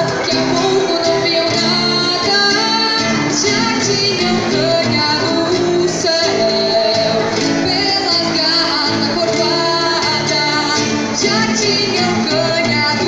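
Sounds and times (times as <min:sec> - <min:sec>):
plucked acoustic guitar: 0:00.0 - 0:13.0
woman singing: 0:00.0 - 0:13.0.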